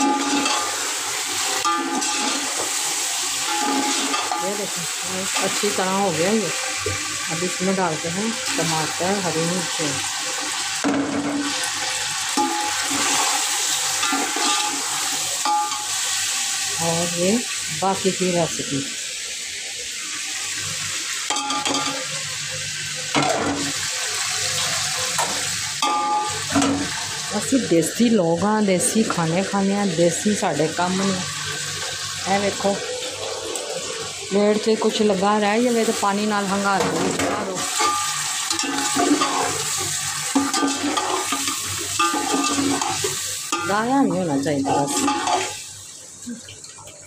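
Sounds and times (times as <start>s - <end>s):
food sizzling in a pot: 0.0s - 46.4s.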